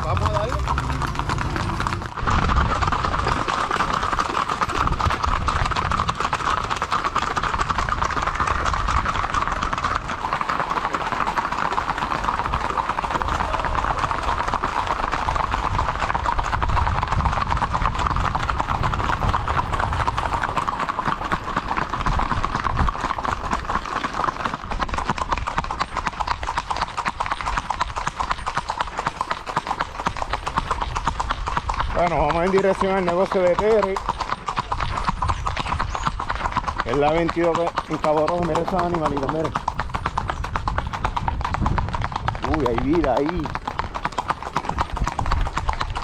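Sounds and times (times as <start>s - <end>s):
horses' hooves clip-clopping: 0.0s - 46.0s.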